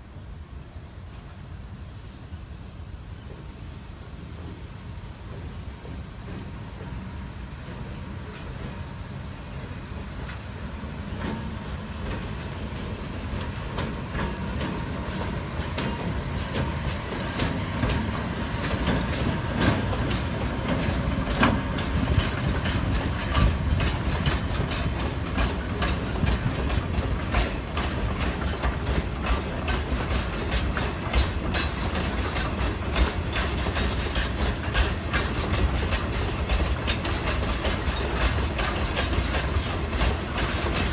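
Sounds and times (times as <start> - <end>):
low train rumble: 0.0 - 40.9
train wheels clicking over rail joints: 3.1 - 40.9.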